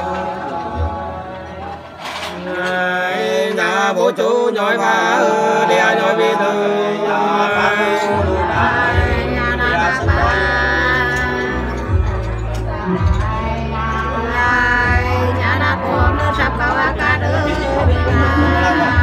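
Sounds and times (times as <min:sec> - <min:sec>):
unaccompanied folk singing: 0:00.0 - 0:19.0.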